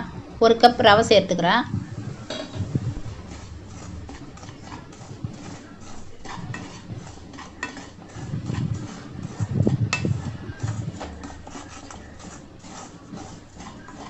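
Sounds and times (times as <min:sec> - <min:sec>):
spatula scraping a pan: 0:00.0 - 0:14.0.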